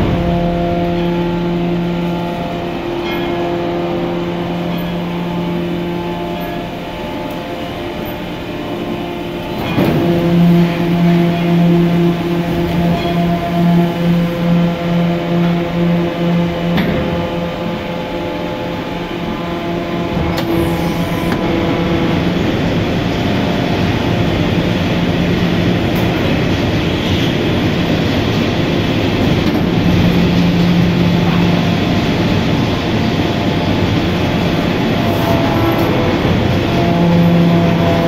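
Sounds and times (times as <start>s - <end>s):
industrial machinery running: 0.0s - 38.0s
low machine hum: 0.0s - 38.0s.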